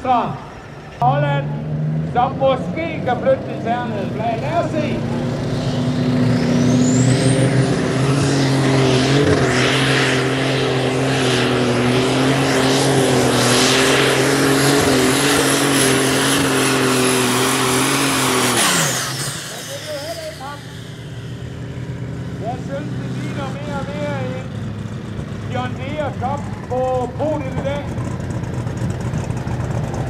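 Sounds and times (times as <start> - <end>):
high turbo whine: 0.0 - 30.0
tractor engine running flat out: 0.0 - 30.0.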